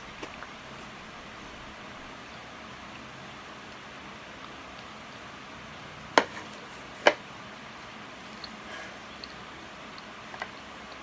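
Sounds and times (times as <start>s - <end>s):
steady faint hiss: 0.0s - 11.0s.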